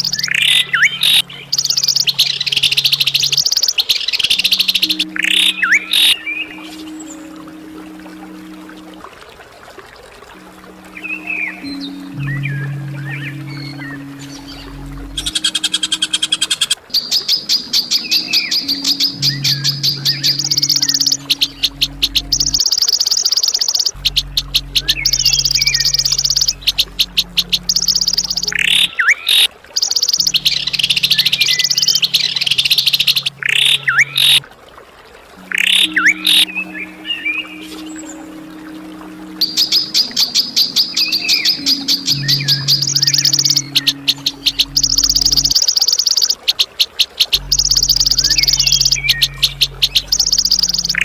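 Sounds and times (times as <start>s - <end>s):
songbird trilling: 0.0s - 7.4s, 11.0s - 34.4s, 35.5s - 51.0s
low steady musical drone: 0.0s - 51.0s.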